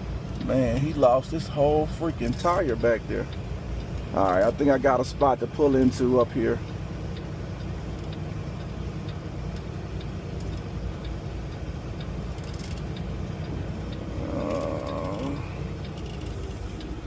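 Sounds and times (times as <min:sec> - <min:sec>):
truck engine droning: 0:00.0 - 0:17.0
turn signal ticking: 0:00.0 - 0:17.0.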